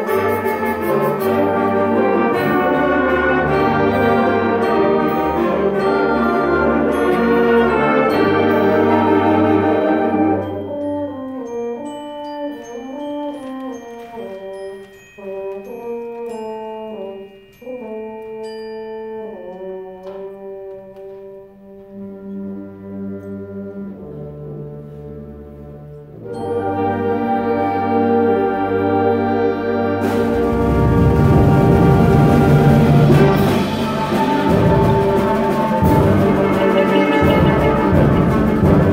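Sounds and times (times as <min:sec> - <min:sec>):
concert band playing: 0:00.0 - 0:17.1, 0:19.2 - 0:38.9.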